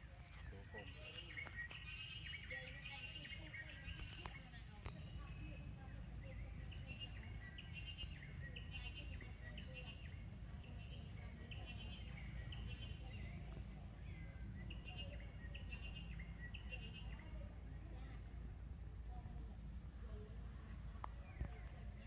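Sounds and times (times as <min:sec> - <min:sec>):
birds chirping: 0:00.0 - 0:18.4, 0:19.0 - 0:22.0.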